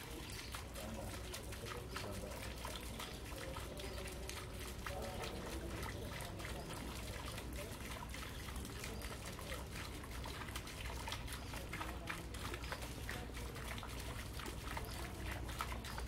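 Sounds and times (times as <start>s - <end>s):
fountain trickling into pond: 0.0s - 16.0s.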